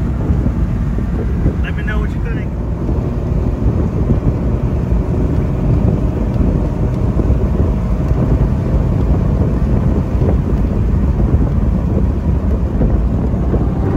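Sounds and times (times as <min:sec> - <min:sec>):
car engine exhaust rumble: 0:00.0 - 0:13.9
road and wind noise: 0:00.0 - 0:13.9.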